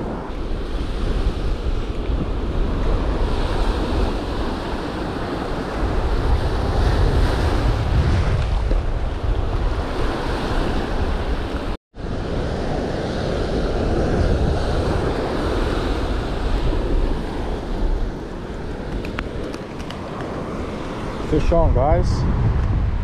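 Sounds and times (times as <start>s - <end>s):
surf washing up beach: 0.0s - 23.0s
wind buffeting microphone: 0.0s - 23.0s.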